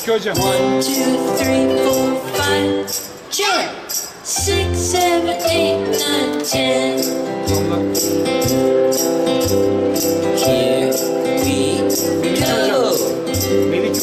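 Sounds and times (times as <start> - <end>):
instrumental music with bass: 0.4 - 3.3, 4.4 - 14.0
high percussion strokes: 0.4 - 14.0.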